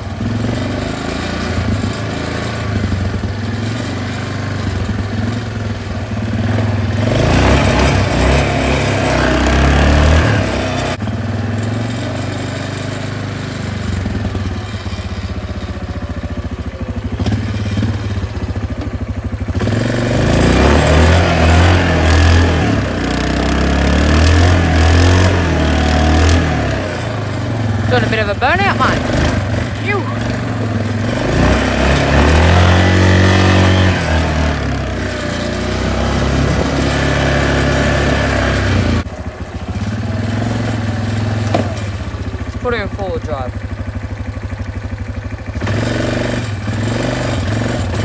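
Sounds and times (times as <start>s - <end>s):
quad bike engine revving: 0.0s - 48.0s.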